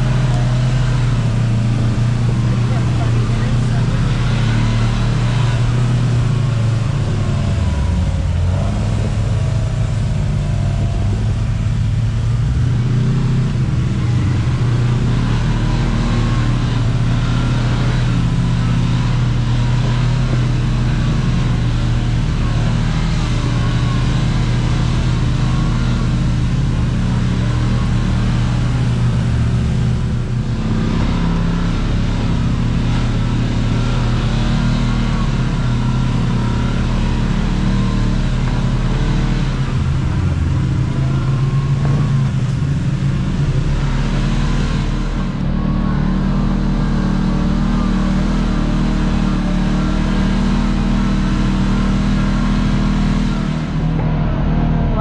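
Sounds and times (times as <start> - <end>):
off-road vehicle engine running: 0.0 - 55.0
road noise: 0.0 - 55.0.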